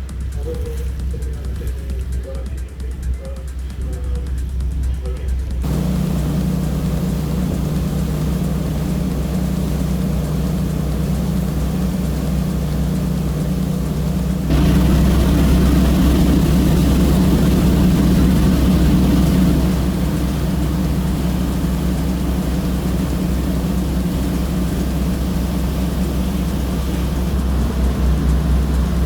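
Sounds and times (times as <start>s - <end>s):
boat engines droning: 0.0s - 29.0s
loud rushing noise: 5.6s - 29.0s.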